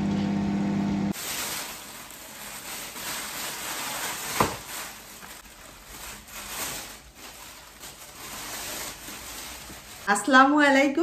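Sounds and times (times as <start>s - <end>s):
plastic bag rustling: 1.1s - 10.3s.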